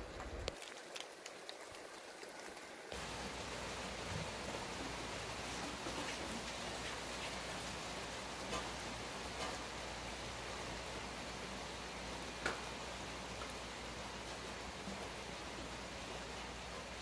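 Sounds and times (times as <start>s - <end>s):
raindrops ticking: 0.0s - 10.6s, 11.8s - 15.2s
steady rain falling: 0.0s - 17.0s.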